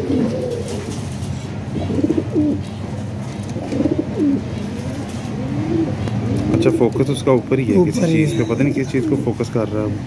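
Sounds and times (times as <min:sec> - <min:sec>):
pigeons cooing: 0:00.0 - 0:07.3, 0:07.9 - 0:09.4.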